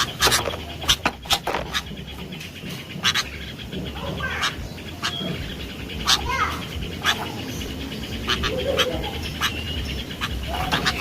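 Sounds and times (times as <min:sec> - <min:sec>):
bulbul calling: 0:00.0 - 0:11.0.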